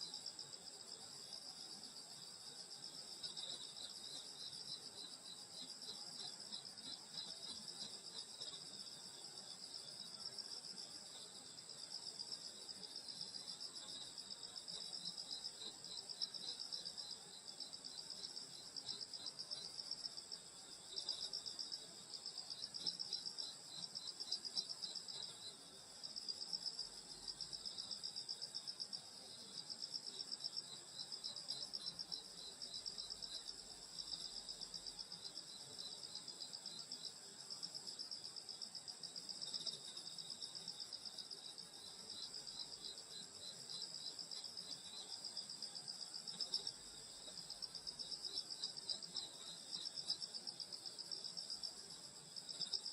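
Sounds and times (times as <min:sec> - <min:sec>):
insects chirping: 0:00.1 - 0:52.9.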